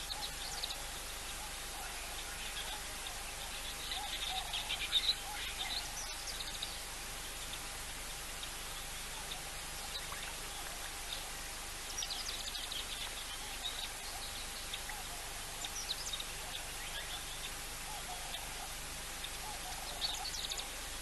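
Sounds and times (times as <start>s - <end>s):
birds chirping: 0.0s - 21.0s
steady outdoor hiss: 0.0s - 21.0s.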